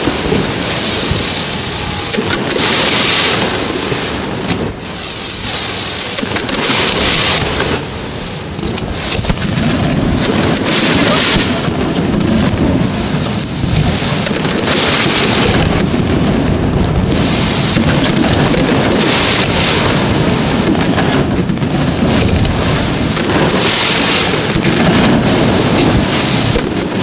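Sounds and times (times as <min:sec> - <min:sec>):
fireworks booms: 0:00.0 - 0:27.0
fireworks crackling: 0:00.0 - 0:27.0.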